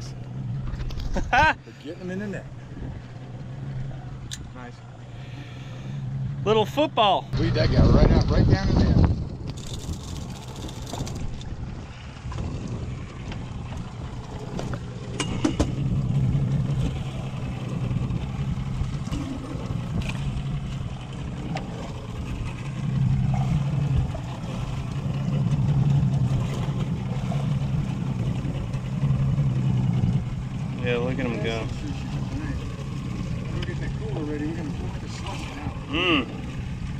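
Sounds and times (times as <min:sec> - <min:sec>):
outboard motor running: 0:00.0 - 0:36.9.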